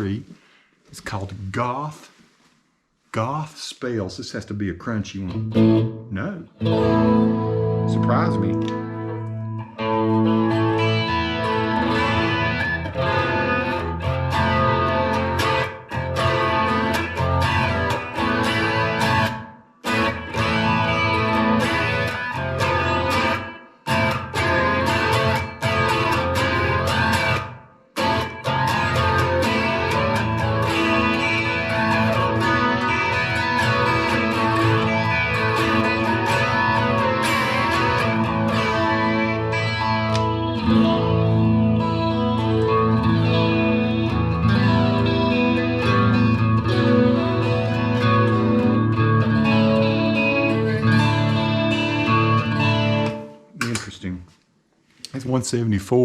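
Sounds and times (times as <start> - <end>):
electric guitar chords: 5.3 - 53.6.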